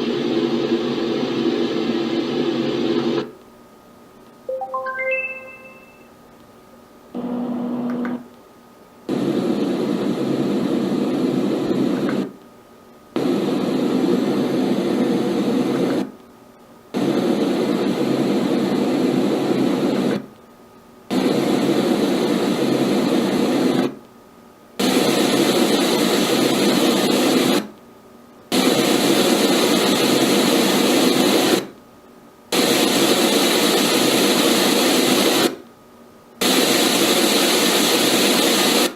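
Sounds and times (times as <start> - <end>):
white noise machine hiss: 0.0 - 38.9.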